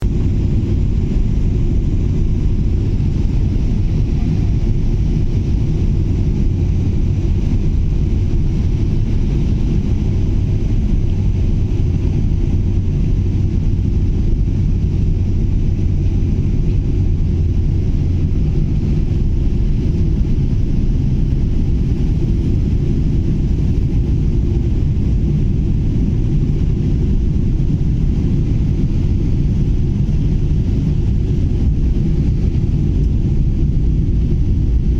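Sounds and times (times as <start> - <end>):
jet engine rumble and rushing air: 0.0 - 34.9.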